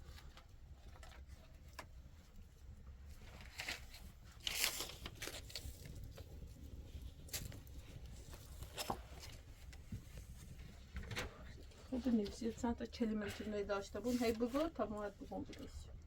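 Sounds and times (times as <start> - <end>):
rustling and crinkling handling: 0.0 - 16.0.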